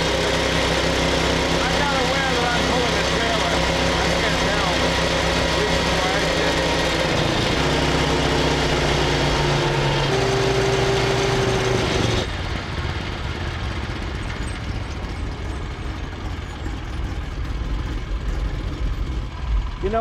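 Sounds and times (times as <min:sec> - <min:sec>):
hissy engine and road noise: 0:00.0 - 0:20.0
motorcycle engine running: 0:00.0 - 0:20.0.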